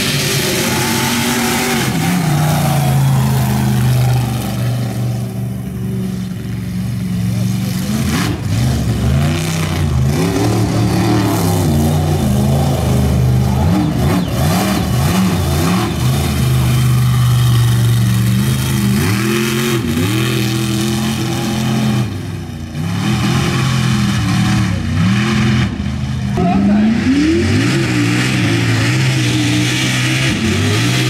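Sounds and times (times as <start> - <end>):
truck engine revving hard: 0.0 - 31.0.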